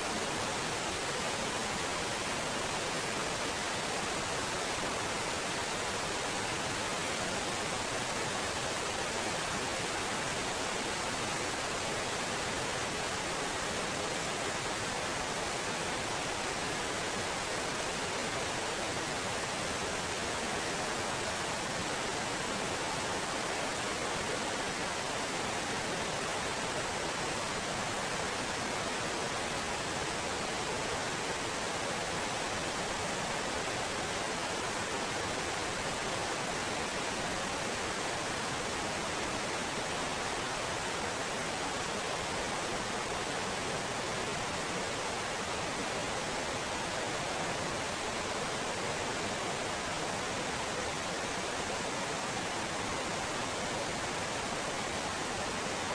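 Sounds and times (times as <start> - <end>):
waterfall rushing water: 0.0 - 55.9.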